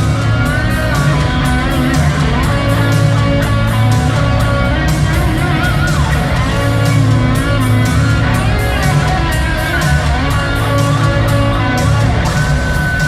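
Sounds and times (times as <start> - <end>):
lead guitar bending pitch: 0.0 - 13.0
rock band playing live: 0.0 - 13.0.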